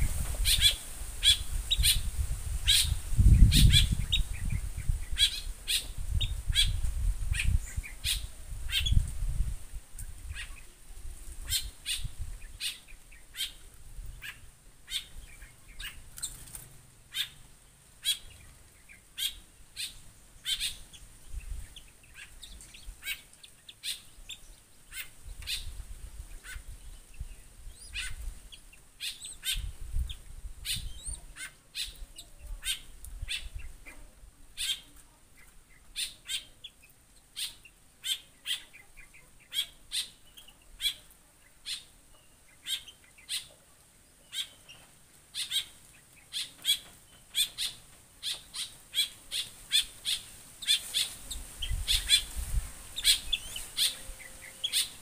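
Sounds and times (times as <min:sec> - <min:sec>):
caged birds chirping: 0:00.0 - 0:55.0.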